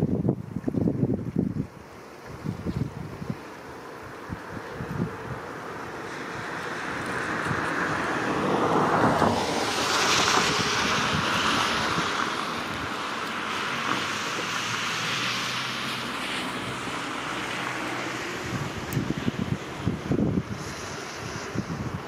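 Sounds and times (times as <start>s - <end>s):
flowing river water: 0.0s - 22.0s
wind: 0.0s - 22.0s.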